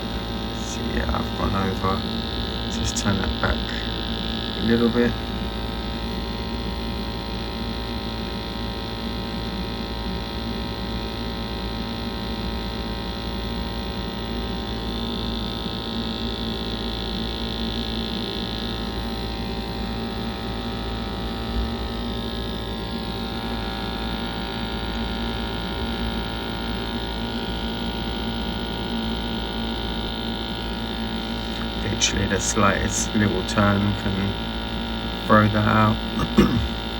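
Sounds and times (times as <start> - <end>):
gas boiler humming: 0.0 - 36.9.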